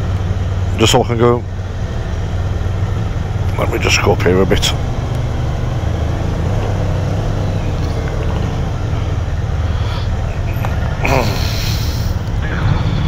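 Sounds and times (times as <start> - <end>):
motorcycle engine running: 1.5 - 13.0.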